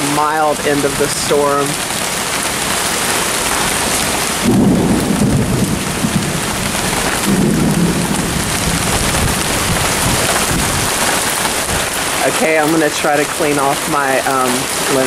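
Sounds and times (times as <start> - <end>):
thunder rumbling: 0.0 - 13.8
heavy rain pouring: 0.0 - 15.0.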